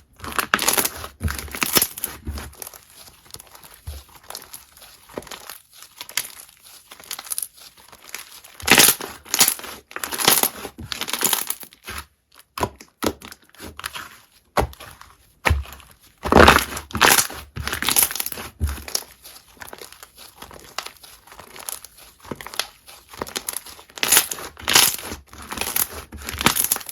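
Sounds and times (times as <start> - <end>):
slime squishing and crackling: 0.0 - 26.9.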